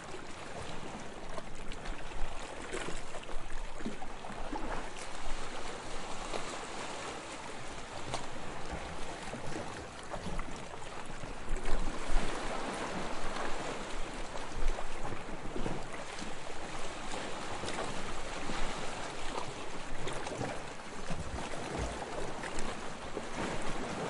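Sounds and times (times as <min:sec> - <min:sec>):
waves lapping on sand: 0:00.0 - 0:24.0.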